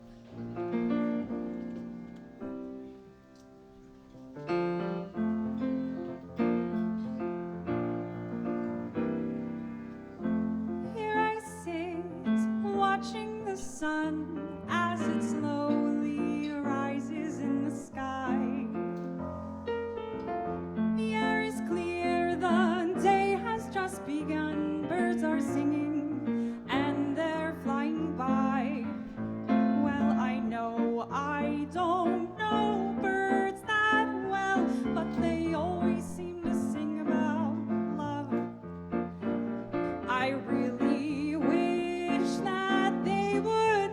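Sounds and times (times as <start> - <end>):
piano playing chords: 0.0 - 43.9.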